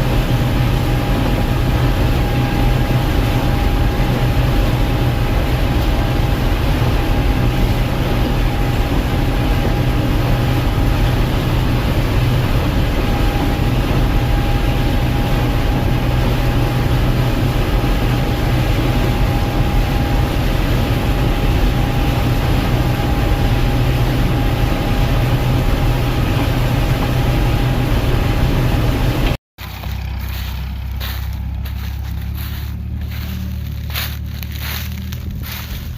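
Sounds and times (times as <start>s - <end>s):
combine engine drone: 0.0s - 35.9s
steady high whine: 0.0s - 35.9s.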